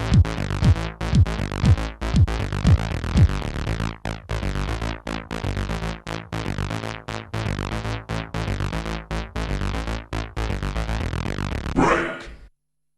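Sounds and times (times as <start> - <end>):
hard techno synthesizer riff: 0.0 - 12.4.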